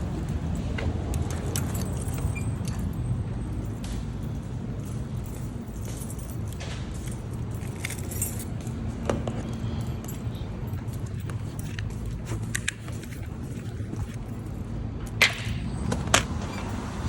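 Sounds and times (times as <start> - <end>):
light metallic clicks and jingles: 0.0 - 15.2.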